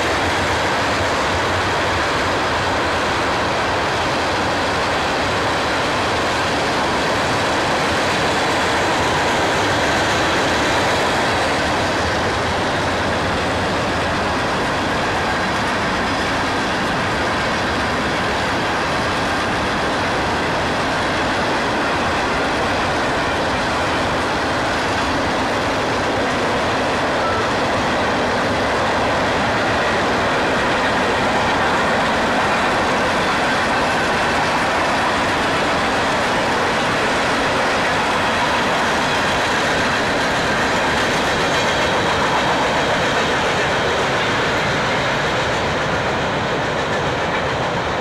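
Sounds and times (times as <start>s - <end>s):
freight train wheels on rail: 0.0s - 48.0s.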